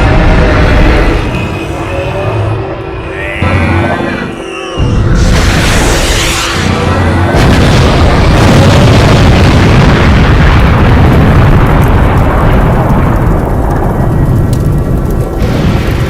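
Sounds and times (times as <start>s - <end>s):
bomb explosions booming: 0.0s - 1.8s, 4.8s - 16.0s.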